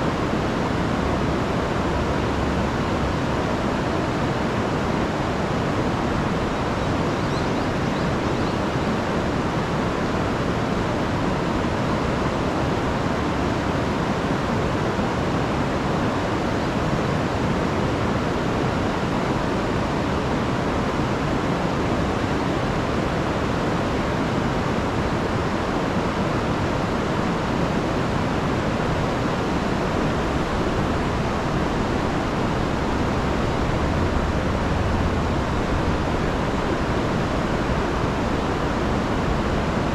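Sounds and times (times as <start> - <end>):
river rushing over falls: 0.0 - 39.9.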